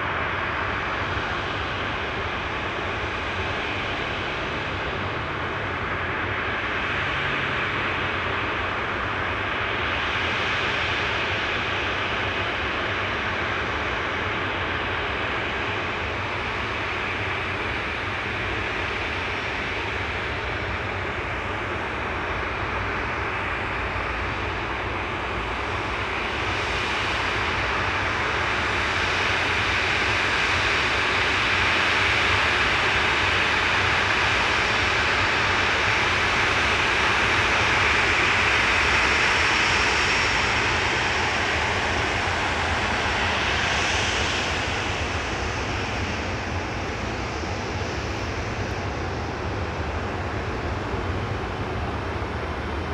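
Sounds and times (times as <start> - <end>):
airliner engines rushing: 0.0 - 52.9.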